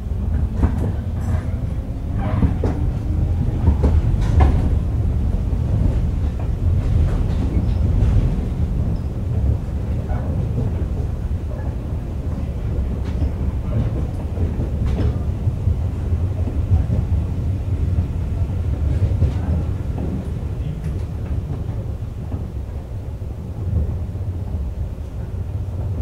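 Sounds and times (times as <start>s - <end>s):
train rumble on board: 0.0s - 26.0s.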